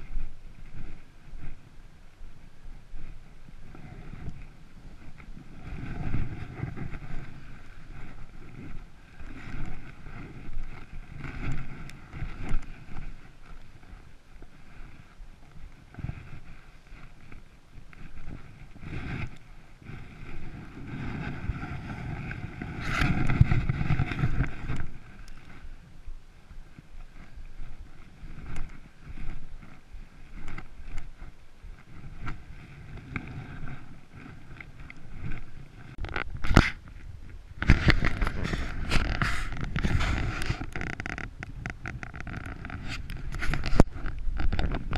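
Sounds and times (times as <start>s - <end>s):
wind buffeting microphone: 0.0s - 44.9s
clicks and scrapes on rock: 3.0s - 25.8s, 26.5s - 44.9s
camera handling rumble: 3.6s - 25.8s, 26.5s - 44.9s.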